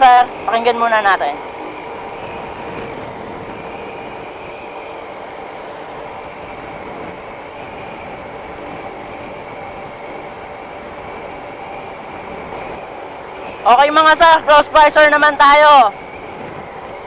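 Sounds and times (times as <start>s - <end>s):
motorcycle engine running: 0.0s - 14.7s
wind rush: 0.0s - 17.0s.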